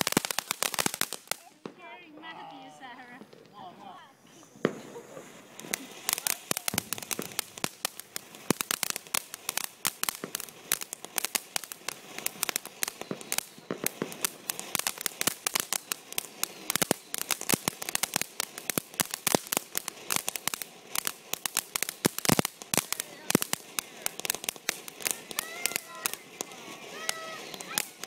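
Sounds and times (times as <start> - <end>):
firework crackling and popping: 0.0 - 28.0.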